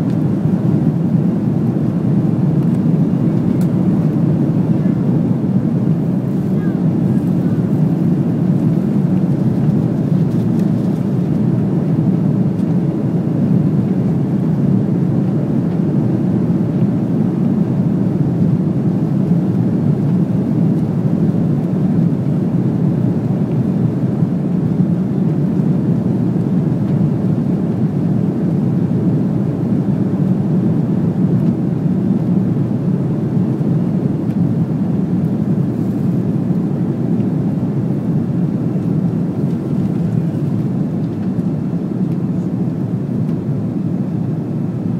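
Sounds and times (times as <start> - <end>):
airplane cabin engine rush: 0.0 - 44.9.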